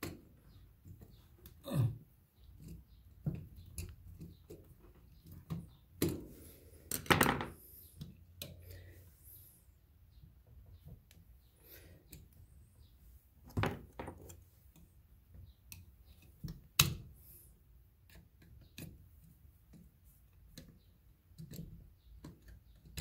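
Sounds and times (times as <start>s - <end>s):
wires clicking and knocking: 0.0s - 8.8s, 10.2s - 17.2s, 18.0s - 23.0s.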